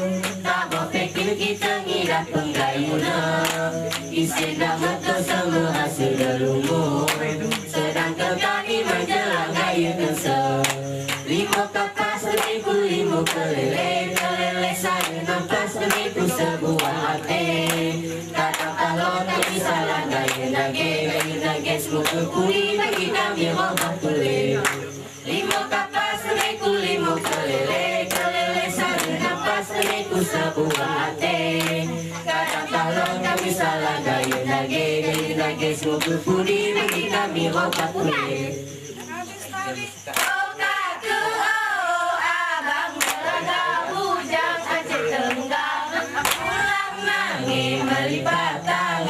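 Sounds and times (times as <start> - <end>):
rhythmic hand clapping: 0.0 - 49.0
girls chanting in unison: 0.2 - 49.0.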